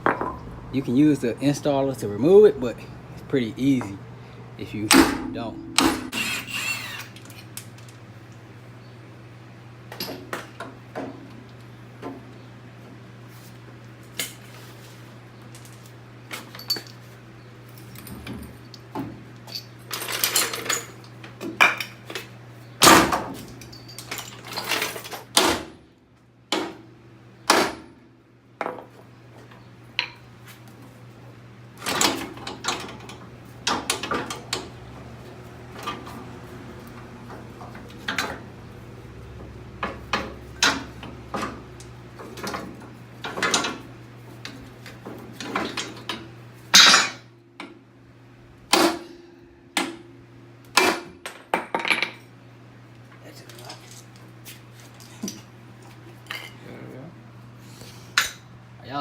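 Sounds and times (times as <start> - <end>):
steady low hum: 0.0 - 51.3.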